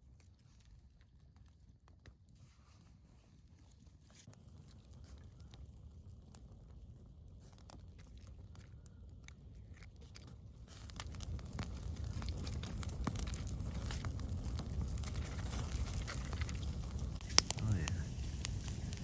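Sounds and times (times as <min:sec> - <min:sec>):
campfire crackling and popping: 0:00.0 - 0:02.4, 0:03.8 - 0:19.0.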